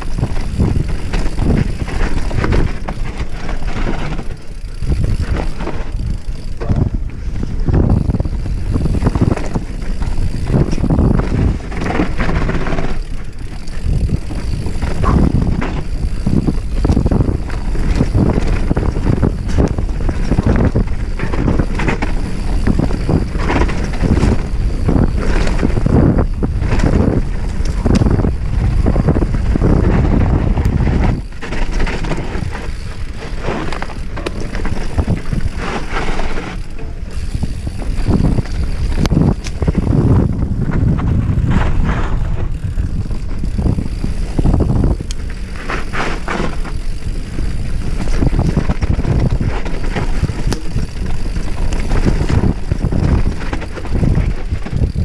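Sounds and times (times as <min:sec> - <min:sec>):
mountain bike rattling: 0:00.0 - 0:55.0
wind rushing over microphone: 0:00.0 - 0:55.0.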